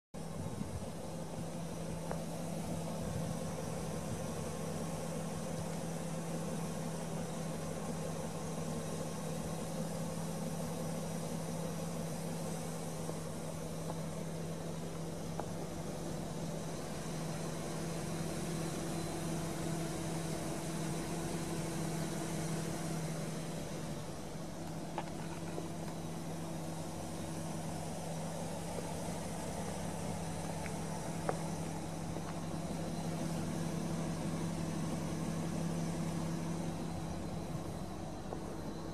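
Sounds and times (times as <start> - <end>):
car engine idling: 0.1 - 38.9.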